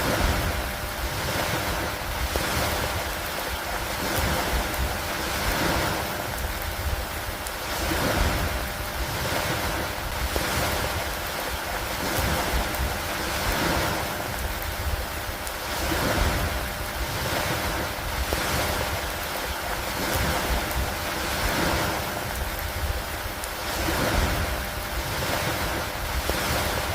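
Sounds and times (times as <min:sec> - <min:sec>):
rain: 0:00.0 - 0:26.9
rushing water: 0:00.0 - 0:26.9.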